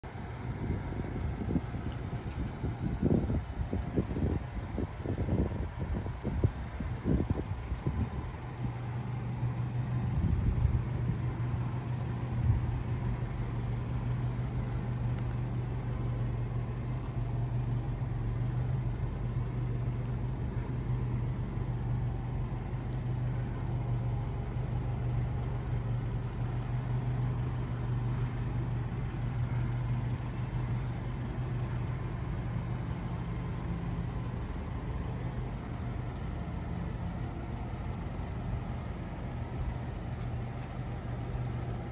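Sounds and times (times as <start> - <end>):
low rumbles: 0.0 - 41.9
truck engine idling: 0.0 - 41.9.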